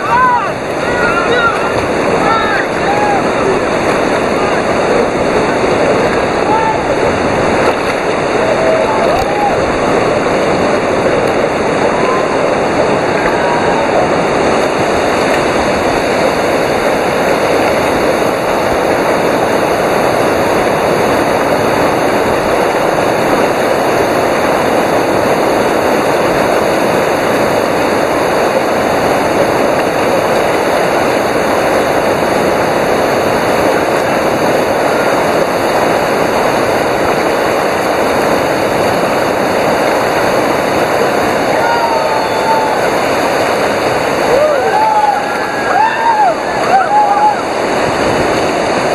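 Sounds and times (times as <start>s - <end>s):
river whitewater rushing: 0.0s - 48.9s.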